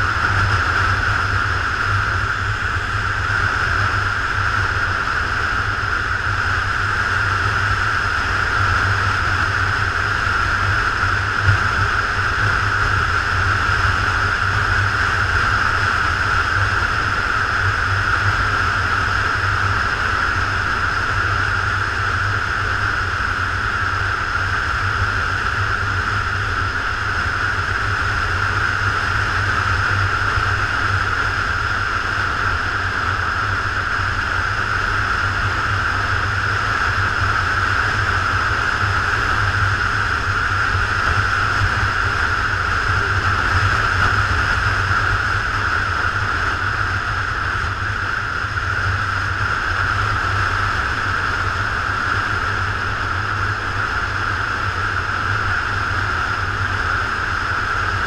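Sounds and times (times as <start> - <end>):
motorcycle engine drone: 0.0 - 58.0
wind noise over camera: 0.0 - 58.0.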